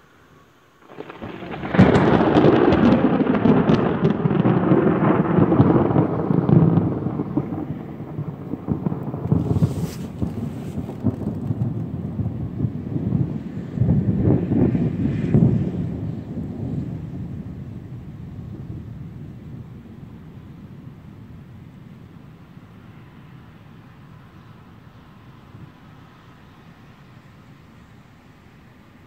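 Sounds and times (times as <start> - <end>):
rolling thunder with crackles: 0.8 - 26.4.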